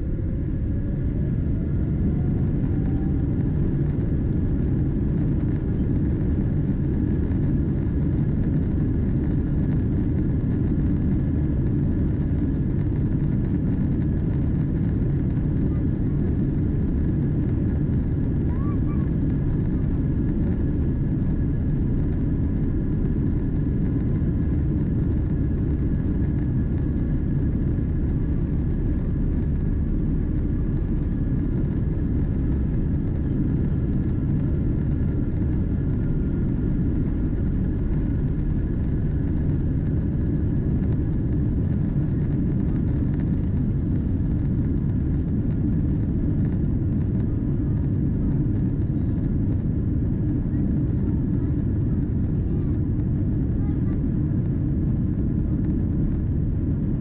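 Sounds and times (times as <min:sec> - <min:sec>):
faint high engine whine: 0:00.0 - 0:57.0
jet engines rumbling: 0:00.0 - 0:57.0.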